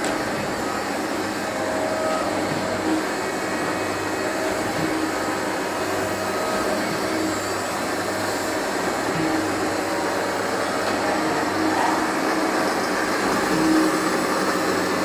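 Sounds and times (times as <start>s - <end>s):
surface grinder whirring: 0.0s - 15.0s.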